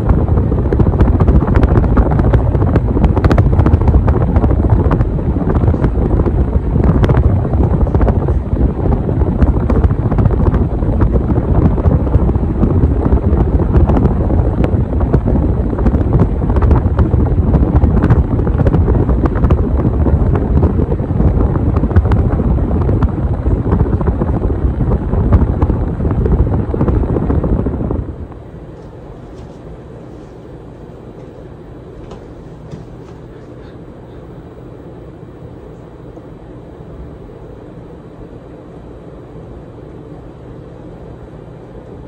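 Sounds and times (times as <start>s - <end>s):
ceiling fan airflow rumble: 0.0s - 42.0s.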